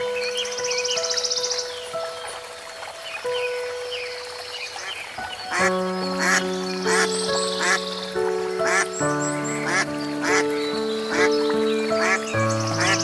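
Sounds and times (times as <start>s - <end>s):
background music with held chords: 0.0s - 13.0s.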